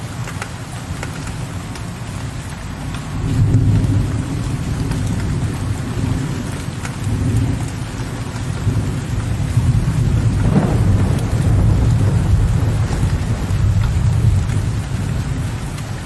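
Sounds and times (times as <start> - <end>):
steady rain: 0.0 - 16.0
rolling thunder rumbling: 2.9 - 16.0.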